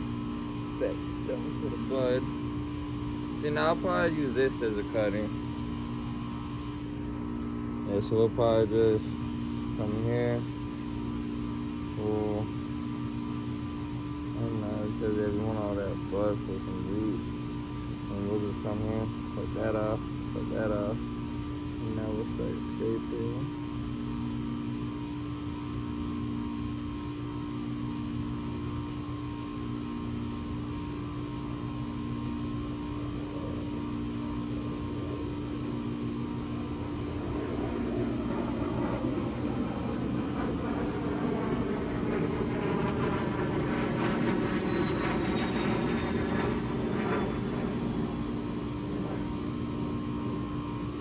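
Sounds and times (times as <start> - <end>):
aircraft engine passing overhead: 0.0 - 51.0
high whine gliding down: 0.0 - 51.0
steady hum: 0.0 - 51.0.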